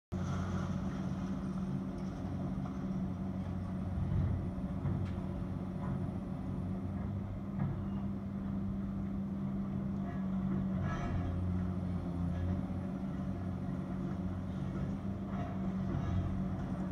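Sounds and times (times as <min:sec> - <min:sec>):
muffled excavator diesel engines: 0:00.1 - 0:16.9.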